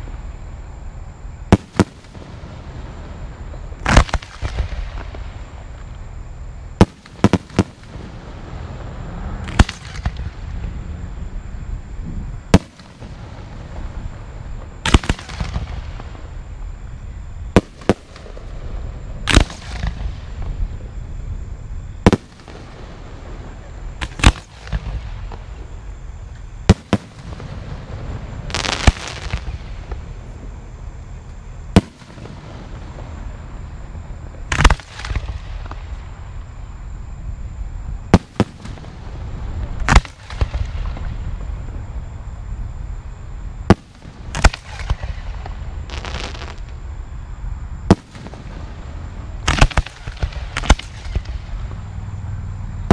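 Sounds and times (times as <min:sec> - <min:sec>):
fireworks hiss: 0:00.0 - 0:06.1, 0:06.8 - 0:52.9
fireworks bursting with sharp bangs: 0:00.0 - 0:47.0, 0:47.8 - 0:51.9.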